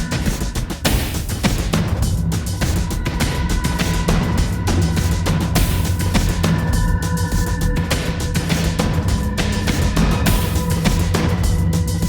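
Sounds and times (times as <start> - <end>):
dark tense background music: 0.0 - 12.0.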